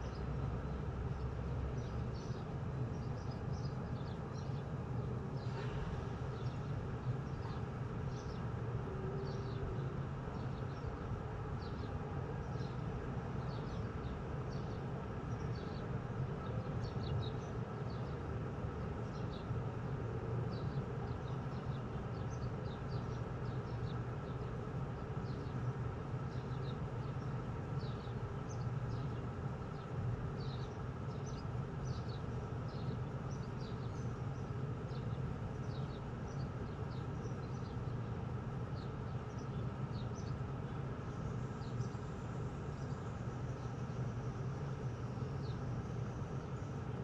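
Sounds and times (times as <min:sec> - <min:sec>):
small birds chirping: 0:00.0 - 0:04.8, 0:05.4 - 0:08.6, 0:09.2 - 0:47.0.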